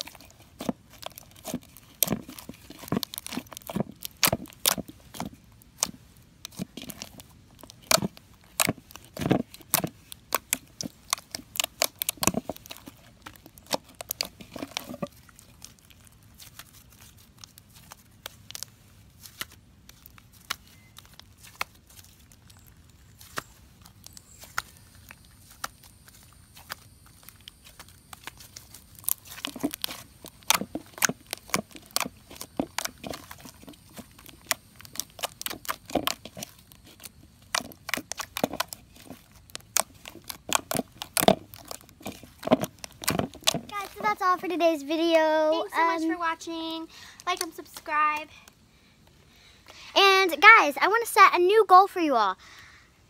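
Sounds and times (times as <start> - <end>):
slime squished by hand: 0.0 - 44.5.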